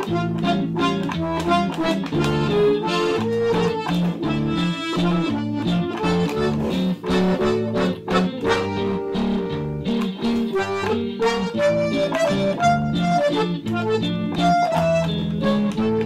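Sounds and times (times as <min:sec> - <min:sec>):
bass notes: 0:00.0 - 0:16.0
button accordion melody: 0:00.0 - 0:16.0
strummed guitar chords: 0:00.0 - 0:16.0.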